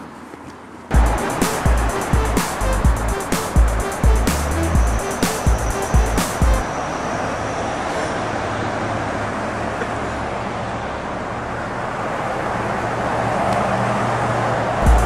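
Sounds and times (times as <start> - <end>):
road traffic hiss: 0.8 - 15.0.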